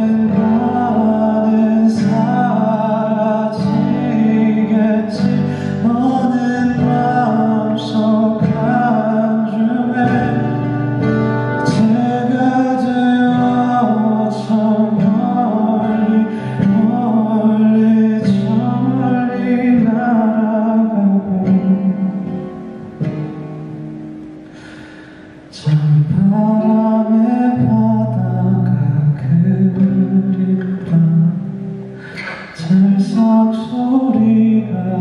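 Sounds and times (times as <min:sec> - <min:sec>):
man singing: 0:00.0 - 0:22.8, 0:24.6 - 0:35.0
guitar accompaniment: 0:00.0 - 0:35.0.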